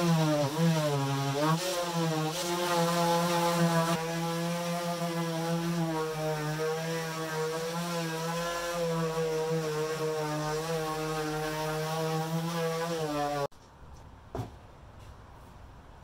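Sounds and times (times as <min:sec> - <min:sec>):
orbital sander on wood: 0:00.0 - 0:13.5.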